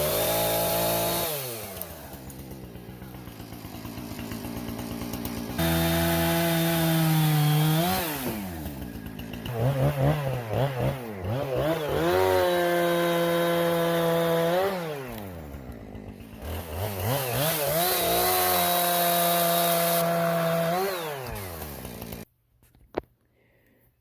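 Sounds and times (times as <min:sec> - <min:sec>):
chainsaw engine revving: 0:00.0 - 0:22.3.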